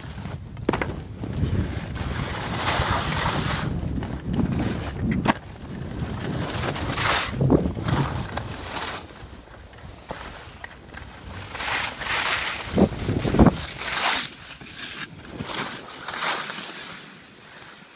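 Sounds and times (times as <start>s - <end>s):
wind on microphone: 0.0s - 15.8s
skis scraping over snow: 0.0s - 17.9s.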